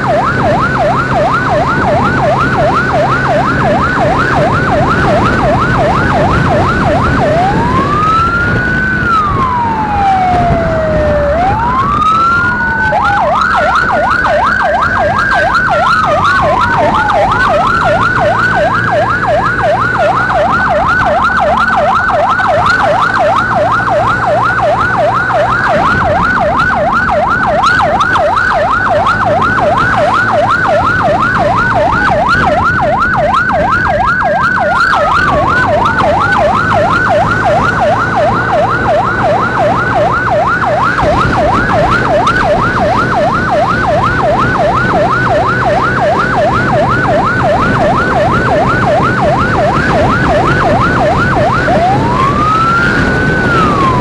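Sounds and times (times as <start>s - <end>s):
siren wailing: 0.0s - 54.0s
siren yelping: 0.0s - 54.0s.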